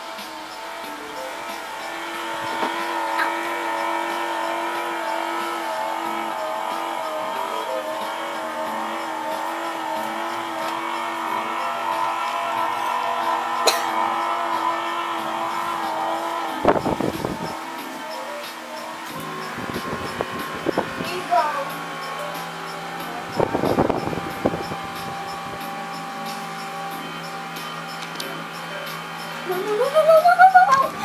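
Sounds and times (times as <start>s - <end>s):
electric motor humming and whining: 0.0s - 31.0s.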